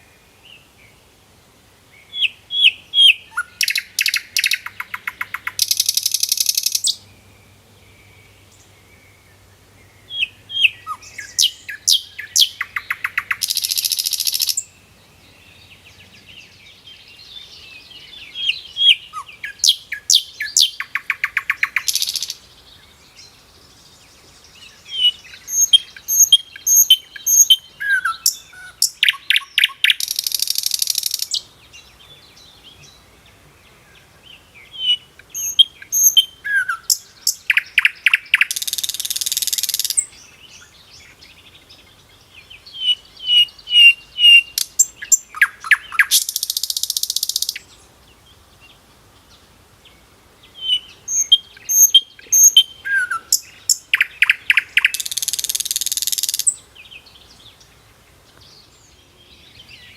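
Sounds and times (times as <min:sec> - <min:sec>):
songbird calls: 0:01.8 - 0:59.9.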